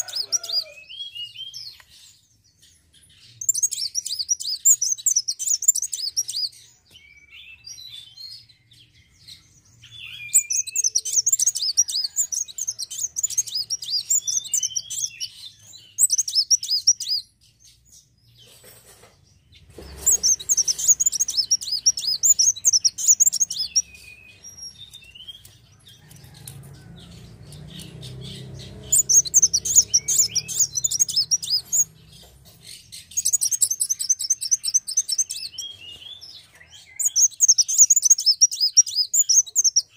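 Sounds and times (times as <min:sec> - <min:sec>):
bird twittering trills: 0:00.0 - 0:18.4, 0:19.4 - 0:39.9.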